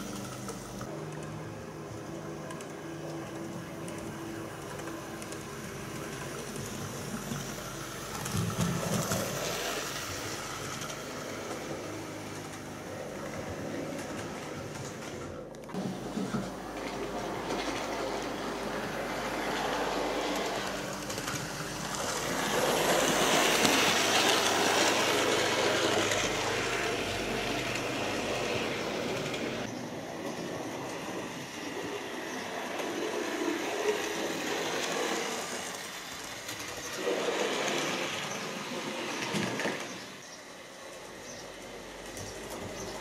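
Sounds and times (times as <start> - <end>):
model train running on track: 0.0 - 43.0.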